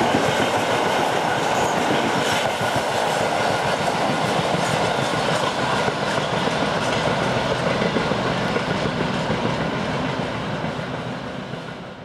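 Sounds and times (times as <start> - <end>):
freight train running past: 0.0 - 12.0.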